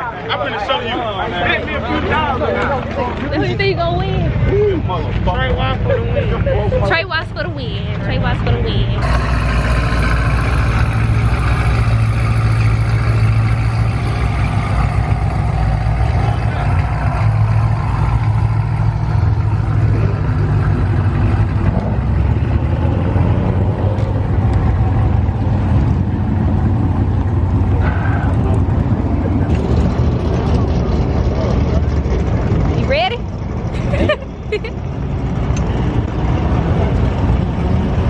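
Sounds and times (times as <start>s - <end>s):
car engine rumbling: 0.0s - 38.0s.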